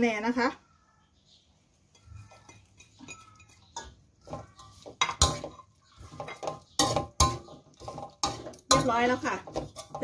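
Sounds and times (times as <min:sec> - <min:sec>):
metal spatula scraping wok: 0:01.9 - 0:10.0.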